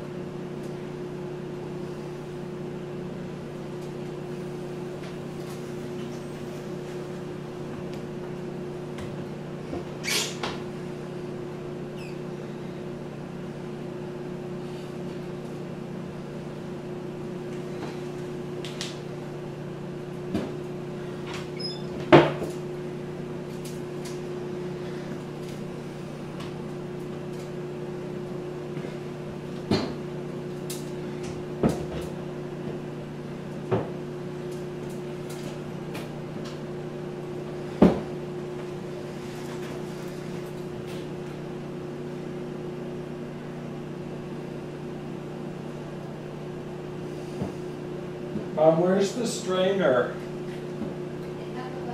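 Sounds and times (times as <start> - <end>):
microwave oven humming: 0.0 - 51.9.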